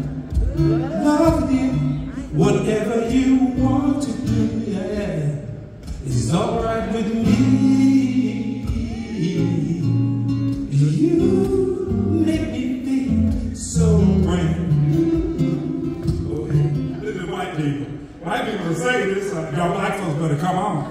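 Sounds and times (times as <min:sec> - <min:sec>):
man singing: 0:00.0 - 0:17.0
acoustic guitar: 0:00.0 - 0:20.9.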